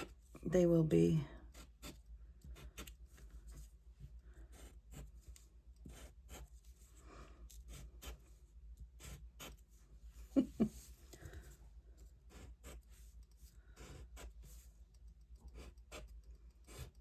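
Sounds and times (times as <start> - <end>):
scratching and rustling of paper: 1.4 - 17.0.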